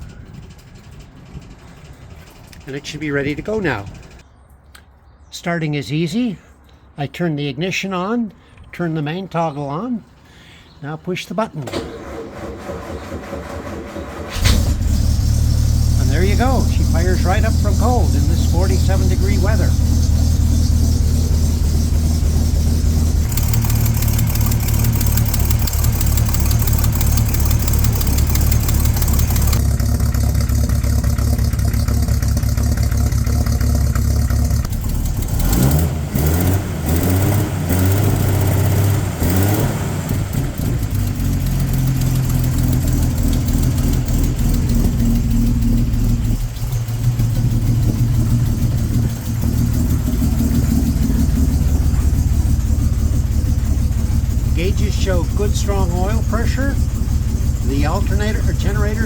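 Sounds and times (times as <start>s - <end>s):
car engine idling: 0.0s - 4.3s, 11.6s - 59.0s.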